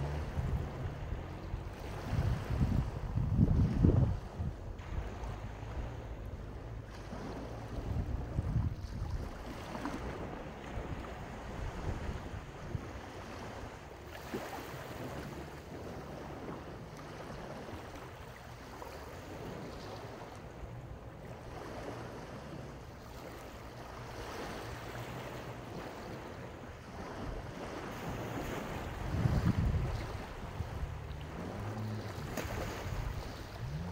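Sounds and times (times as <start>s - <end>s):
wind buffeting microphone: 0.0s - 33.9s
sea surf washing onto beach: 4.8s - 33.9s.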